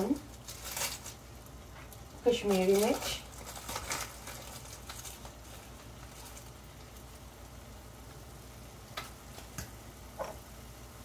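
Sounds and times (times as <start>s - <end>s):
tomato puree sizzling in frying pan: 0.0s - 11.0s.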